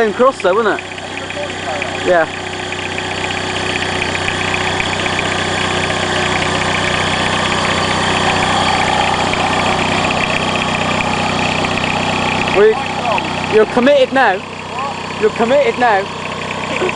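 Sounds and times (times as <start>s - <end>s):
diesel car engine idling: 0.0s - 16.9s.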